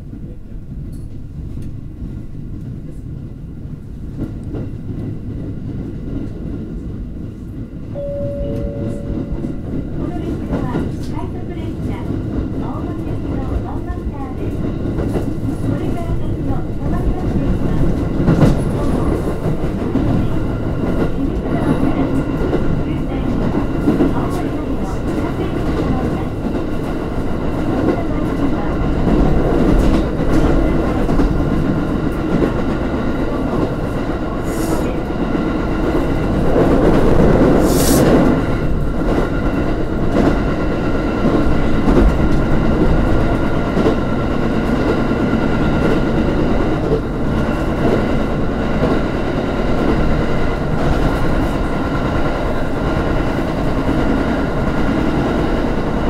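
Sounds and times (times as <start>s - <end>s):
train running gear hum: 0.0s - 56.0s.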